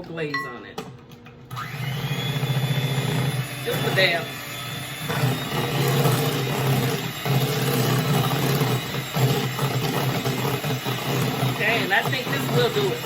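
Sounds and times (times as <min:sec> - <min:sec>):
electric mixer running: 0:01.5 - 0:13.0.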